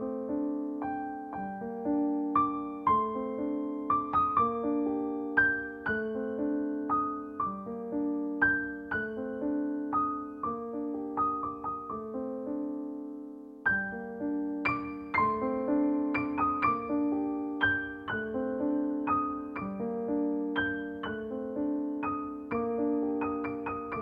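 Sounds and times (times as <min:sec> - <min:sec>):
gentle keyboard melody: 0:00.0 - 0:24.0.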